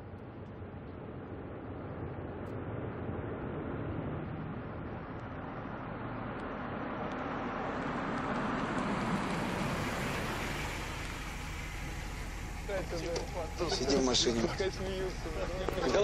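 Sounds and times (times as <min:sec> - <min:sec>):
vehicle driving over packed snow: 0:00.0 - 0:16.0.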